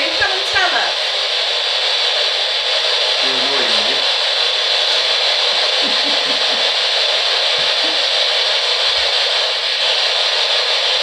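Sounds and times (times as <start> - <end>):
static hiss: 0.0 - 11.0.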